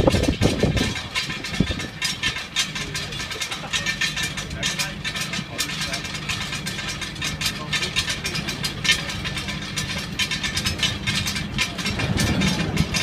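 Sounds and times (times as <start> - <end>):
rapid clicking rattle: 0.0 - 13.0.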